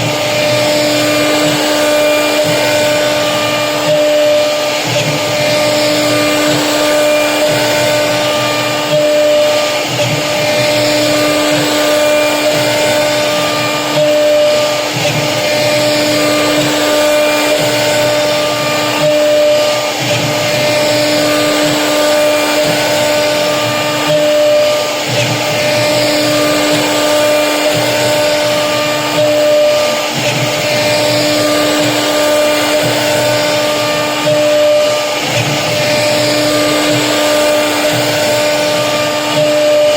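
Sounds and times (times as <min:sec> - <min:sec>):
router motor whine: 0:00.0 - 0:39.9.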